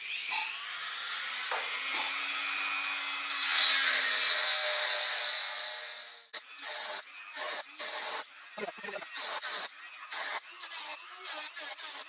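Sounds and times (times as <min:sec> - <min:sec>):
rotary tool whining and grinding: 0:00.0 - 0:12.0.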